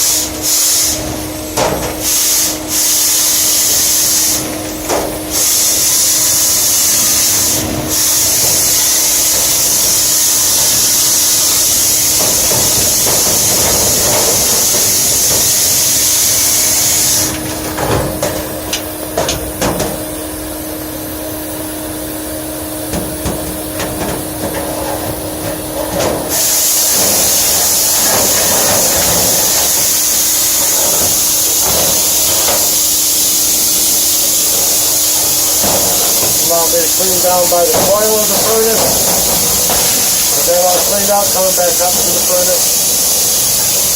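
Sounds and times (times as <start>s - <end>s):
compressed air hissing: 0.0s - 43.9s
steady hum: 0.0s - 43.9s
knocks and rattles in duct: 0.6s - 20.5s, 22.8s - 43.8s.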